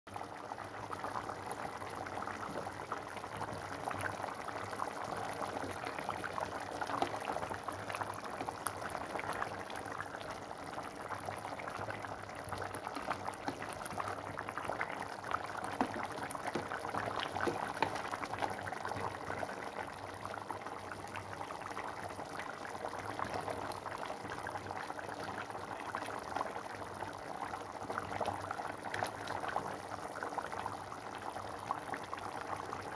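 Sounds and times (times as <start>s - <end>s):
broth boiling with bubbles popping: 0.1s - 32.9s.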